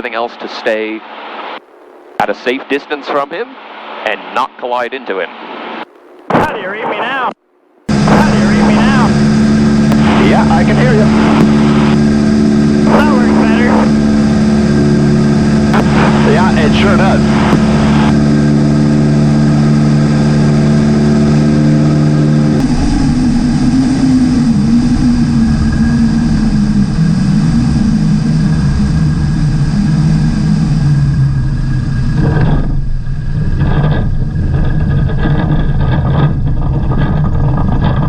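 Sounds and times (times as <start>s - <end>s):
propeller airplane engine droning: 0.0s - 38.0s.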